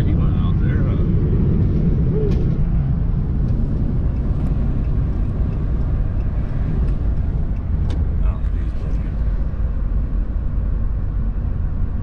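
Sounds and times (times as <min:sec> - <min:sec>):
road and engine rumble in vehicle: 0:00.0 - 0:12.0.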